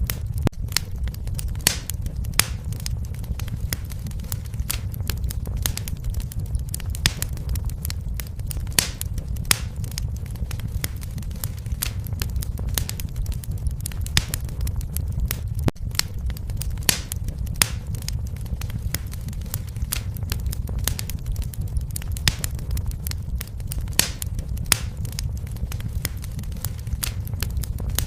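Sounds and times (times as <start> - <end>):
fire crackling and popping: 0.0 - 28.0
low fire rumble: 0.0 - 28.0.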